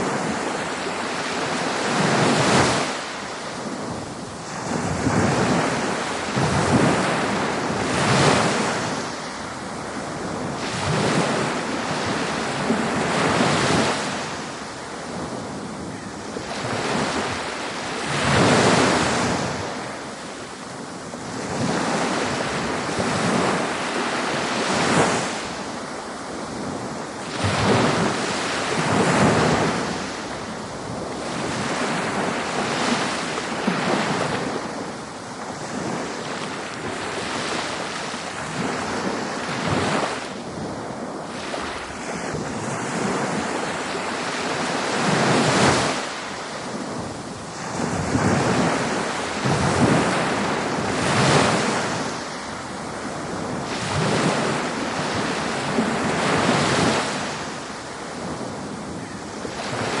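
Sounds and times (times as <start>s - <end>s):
ocean waves breaking on a beach: 0.0s - 60.0s.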